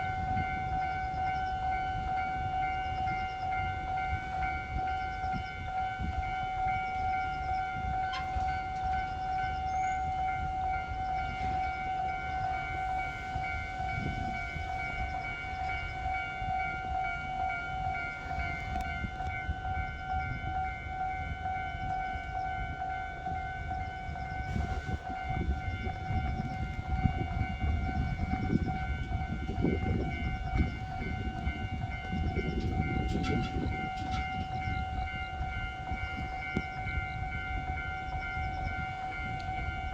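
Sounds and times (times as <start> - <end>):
level crossing alarm tone: 0.0 - 39.9
train rumbling: 0.0 - 39.9.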